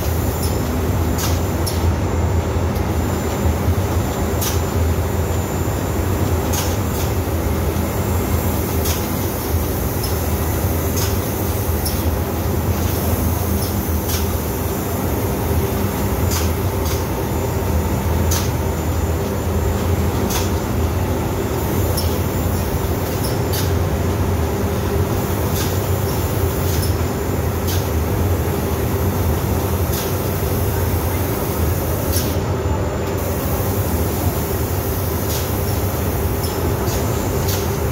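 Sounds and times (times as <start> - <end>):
machinery and ventilation rumble: 0.0 - 37.9.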